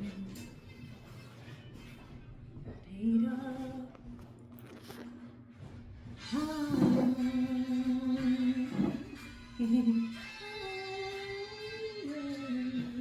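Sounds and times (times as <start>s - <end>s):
quiet music: 0.0s - 13.0s.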